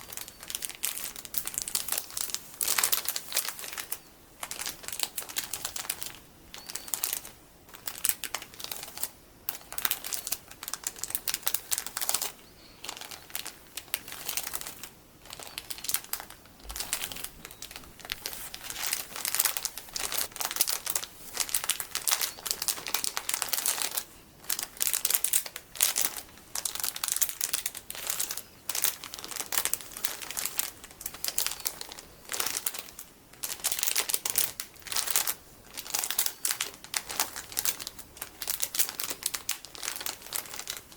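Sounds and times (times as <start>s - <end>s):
plastic packaging crinkling: 0.0s - 40.9s.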